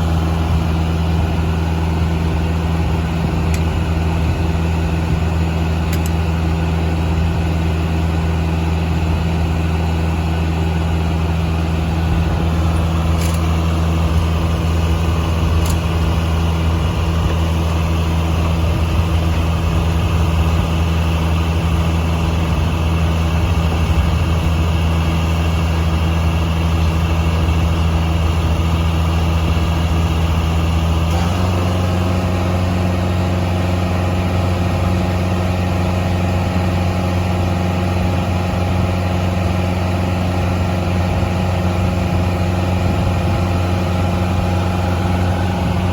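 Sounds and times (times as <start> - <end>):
sawmill power unit running: 0.0 - 45.9.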